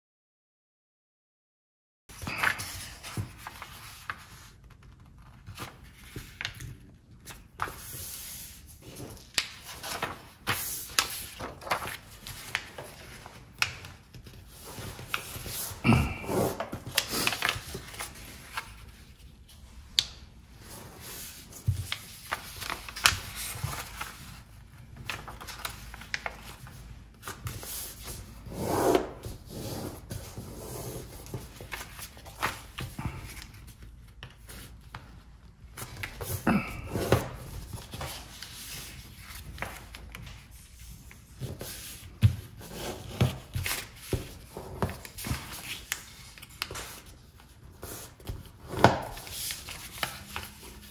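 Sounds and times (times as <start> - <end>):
paper crackling as folded: 2.1 - 28.3, 31.0 - 42.2, 42.9 - 50.9
paper rustling and sliding: 2.1 - 35.2, 35.8 - 50.9.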